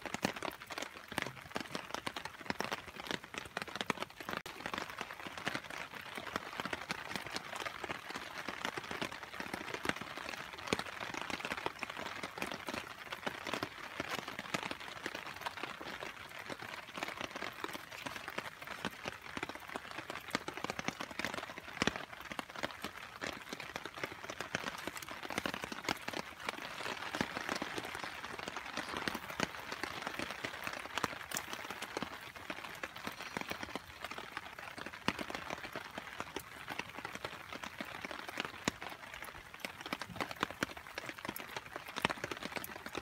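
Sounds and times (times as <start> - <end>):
rain pattering on a surface: 0.0 - 43.0.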